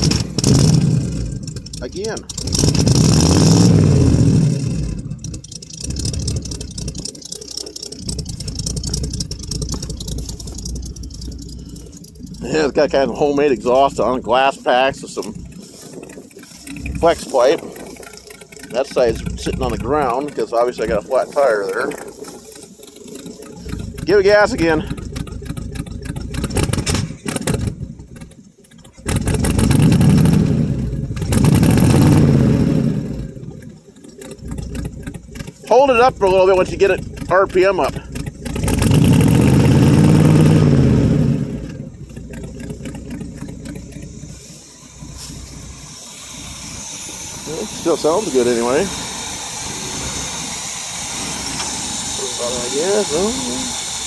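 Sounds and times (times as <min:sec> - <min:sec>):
engine idling after throttle blip: 0:00.0 - 0:54.0.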